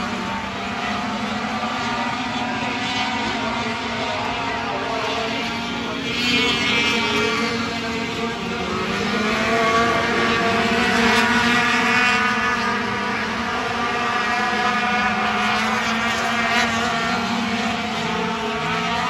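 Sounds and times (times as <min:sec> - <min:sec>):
race truck engines droning: 0:00.0 - 0:19.0.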